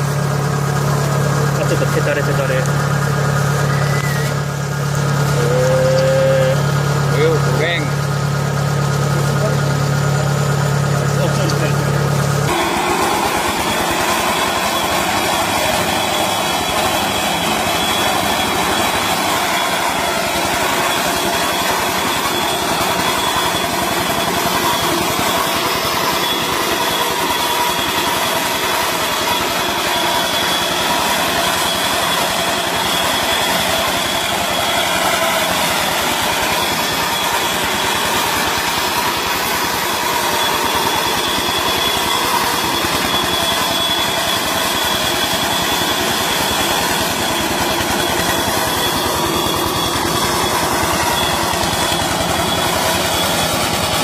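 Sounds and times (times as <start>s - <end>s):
machine engine running steadily: 0.0s - 54.0s
steady high whine: 0.0s - 54.0s.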